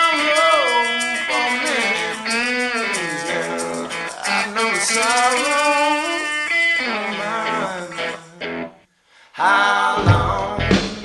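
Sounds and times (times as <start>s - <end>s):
song with guitar and singing: 0.0s - 11.0s.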